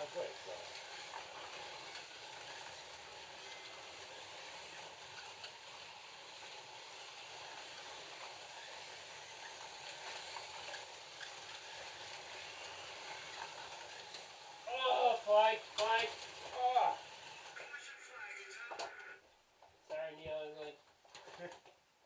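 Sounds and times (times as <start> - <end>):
slot car motors whirring: 0.0 - 19.2.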